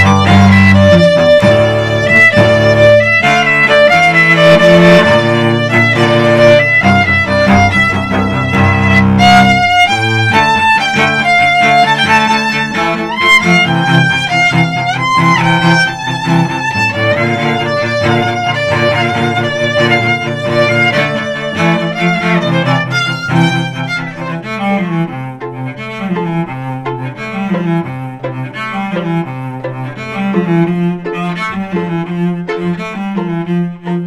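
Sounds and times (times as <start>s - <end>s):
cello bass line: 0.0s - 34.0s
violin sustained notes: 0.0s - 34.0s.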